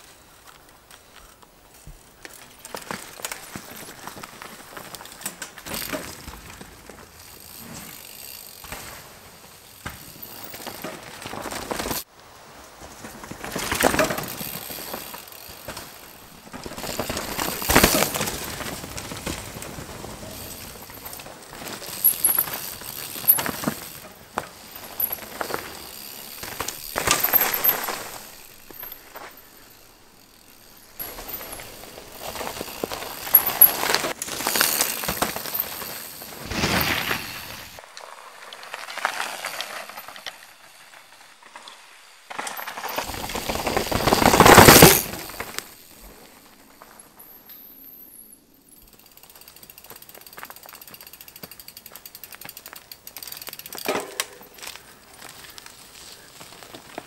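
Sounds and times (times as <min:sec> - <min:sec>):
bike tyres rolling on dirt: 0:00.0 - 0:57.0
bike rattling and clicking: 0:00.2 - 0:57.0.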